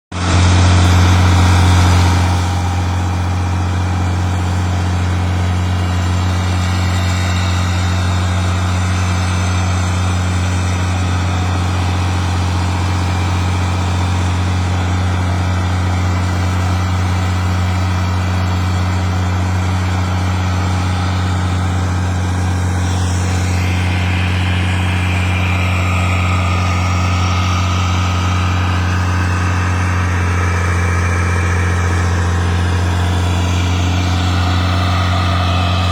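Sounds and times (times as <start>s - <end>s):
boat engine humming: 0.1s - 35.9s.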